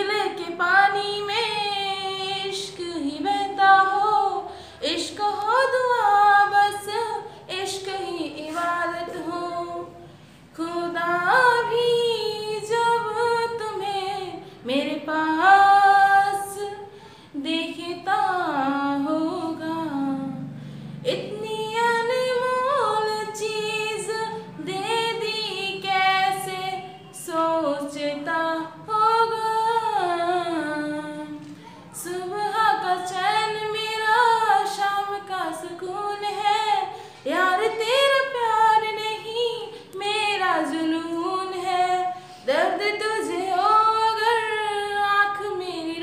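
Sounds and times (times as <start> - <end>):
woman singing unaccompanied: 0.0 - 46.0.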